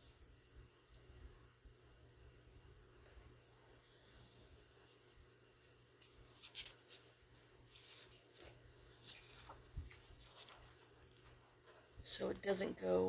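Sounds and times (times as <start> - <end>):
faint rustling of craft materials: 0.0 - 13.0
low steady hum: 0.0 - 13.0.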